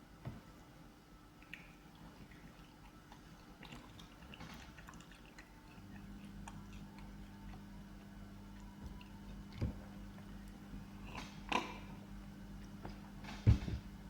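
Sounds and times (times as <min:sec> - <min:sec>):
low steady hum: 0:00.0 - 0:14.0
close chewing: 0:01.4 - 0:13.0.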